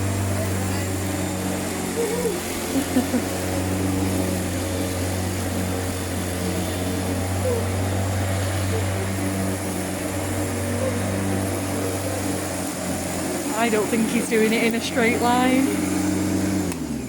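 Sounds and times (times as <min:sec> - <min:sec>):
electric lawnmower motor humming: 0:00.0 - 0:17.0.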